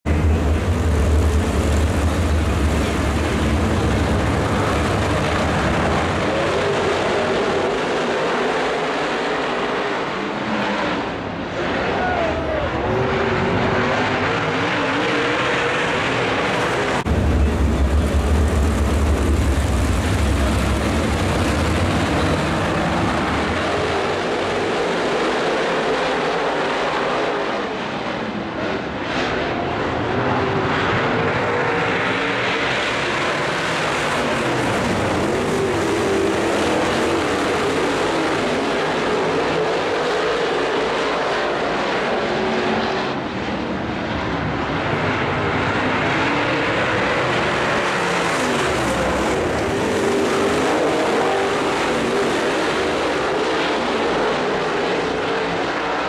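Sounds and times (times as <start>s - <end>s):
race car engines racing: 0.0s - 56.0s.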